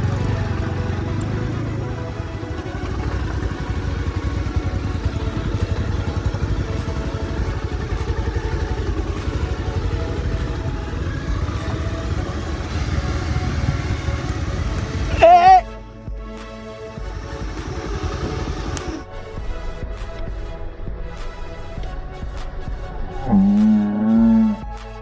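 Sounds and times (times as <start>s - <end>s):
motorcycle engine running: 0.0s - 16.3s, 16.9s - 24.9s.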